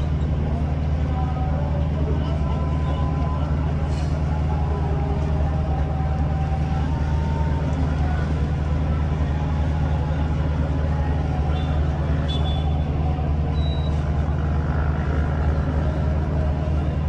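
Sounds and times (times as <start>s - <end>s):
indistinct voices: 0.0s - 17.0s
large engine running: 0.0s - 17.0s.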